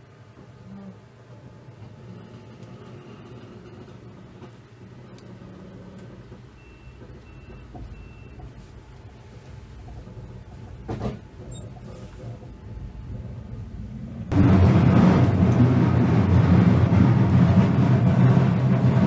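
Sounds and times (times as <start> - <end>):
train carriage low rumble: 0.0 - 19.0.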